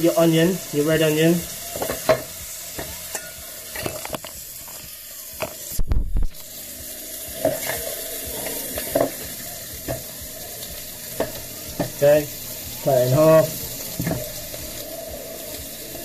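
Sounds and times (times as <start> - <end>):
bacon sizzling in a pan: 0.0 - 16.0.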